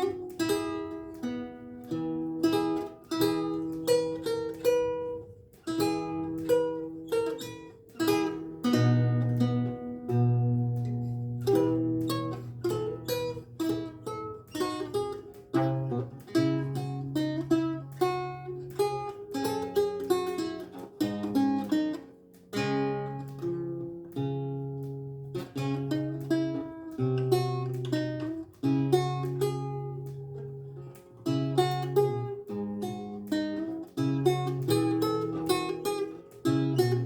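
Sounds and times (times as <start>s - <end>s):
lute playing: 0.0s - 37.0s.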